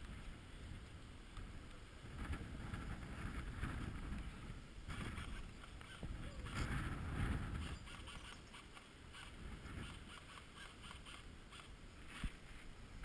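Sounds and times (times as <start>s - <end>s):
wind rumble on microphone: 0.0s - 11.1s.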